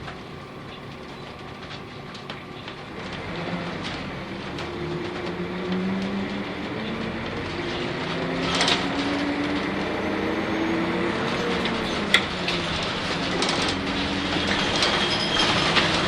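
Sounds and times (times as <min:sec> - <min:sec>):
bus engine accelerating: 0:00.0 - 0:16.0
tyre and road noise: 0:00.0 - 0:16.0.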